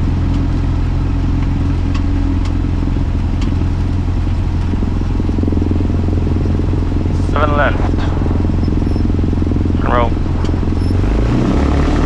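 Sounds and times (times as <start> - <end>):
propeller plane engine running: 0.0 - 12.0.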